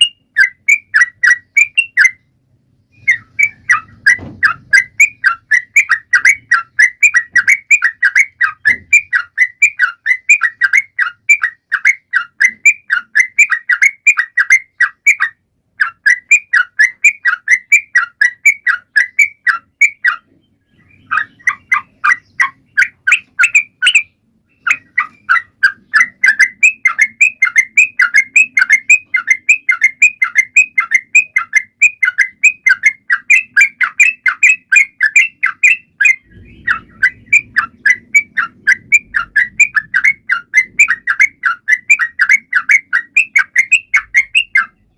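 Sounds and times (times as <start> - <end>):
bulbul chattering song: 0.0 - 44.9.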